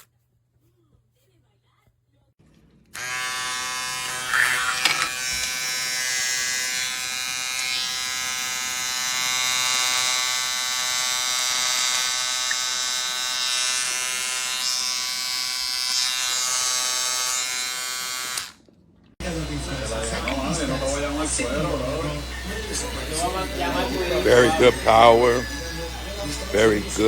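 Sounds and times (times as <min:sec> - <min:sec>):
shaver motor buzzing: 0:03.0 - 0:18.6, 0:19.2 - 0:27.0.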